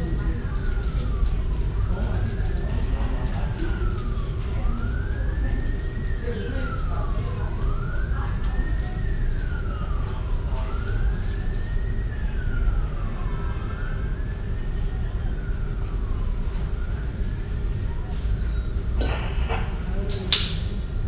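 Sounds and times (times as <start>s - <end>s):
emergency siren wailing: 0.0s - 21.0s
low rumble of traffic: 0.0s - 21.0s.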